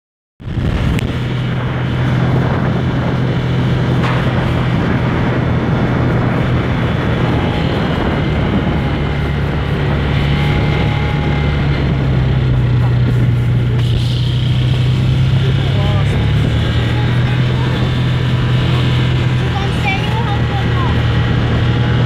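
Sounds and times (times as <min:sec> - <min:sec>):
vehicle engine drone: 0:00.4 - 0:22.0.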